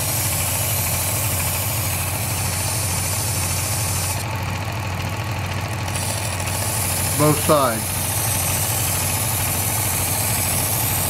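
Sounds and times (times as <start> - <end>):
knife sharpener motor hum: 0.0 - 11.0.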